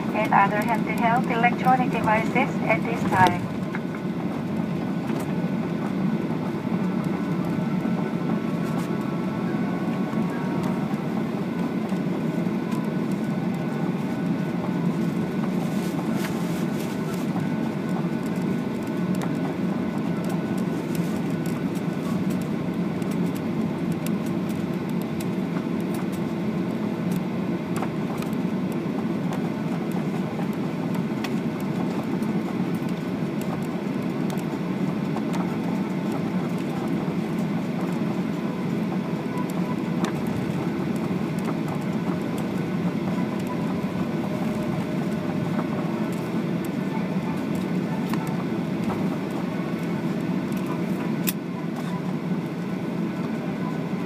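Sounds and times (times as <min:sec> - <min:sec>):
aircraft cabin low rumble: 0:00.0 - 0:54.0.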